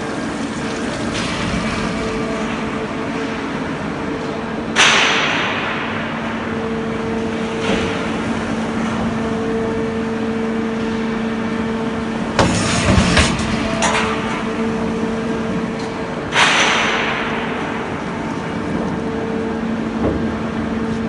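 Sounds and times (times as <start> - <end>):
tube welding mill running: 0.0 - 21.0.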